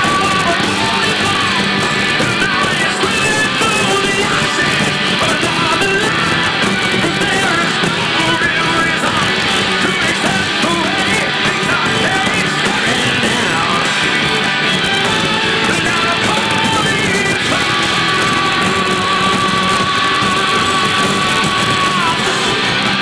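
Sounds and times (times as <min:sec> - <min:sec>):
faint singing: 0:00.0 - 0:23.0
live rock band playing: 0:00.0 - 0:23.0.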